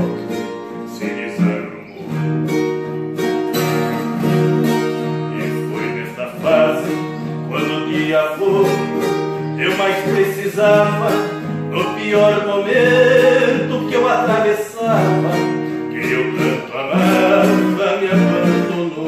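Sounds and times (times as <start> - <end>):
acoustic guitars plucked and strummed: 0.0 - 19.0.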